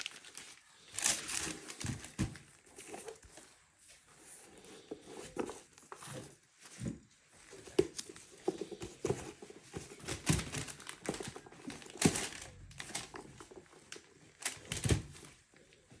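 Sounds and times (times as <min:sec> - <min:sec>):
paper crinkling: 0:00.0 - 0:06.7, 0:07.5 - 0:15.2.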